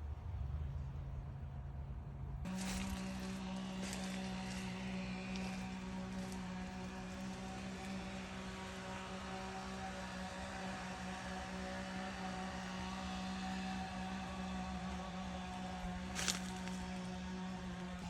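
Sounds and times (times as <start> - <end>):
motor humming: 2.5 - 18.0.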